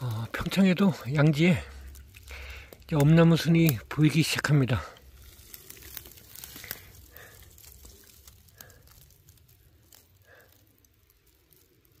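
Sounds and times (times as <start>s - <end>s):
dry leaves crackling underfoot: 0.0s - 12.0s.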